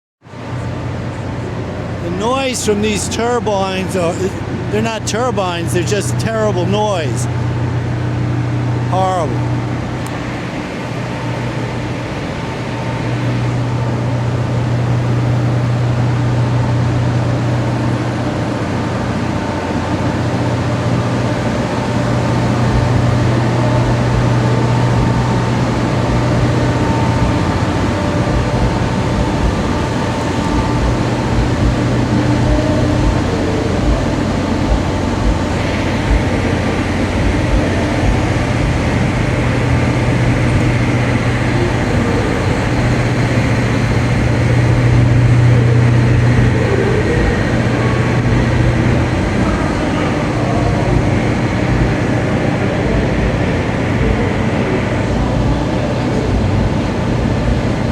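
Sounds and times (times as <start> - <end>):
loud mechanical drone: 0.2 - 57.9.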